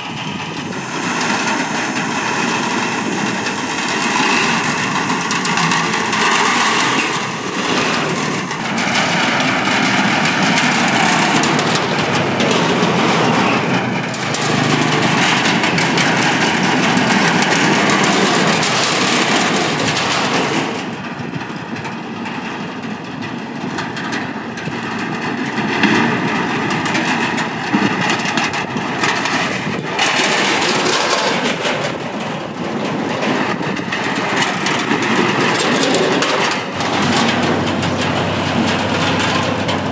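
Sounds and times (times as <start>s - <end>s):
motorcycle and scooter engines: 0.0s - 39.9s.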